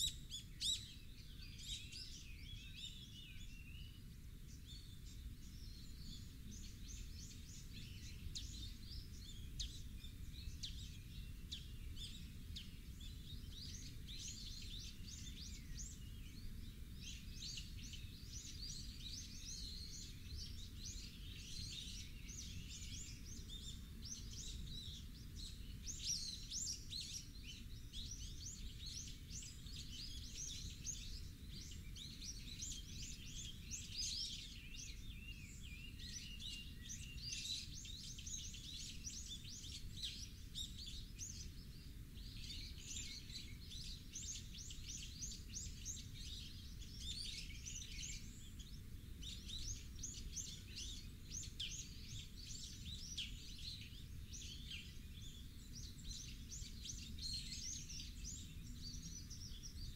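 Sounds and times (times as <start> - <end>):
many birds chirping: 0.0 - 59.9.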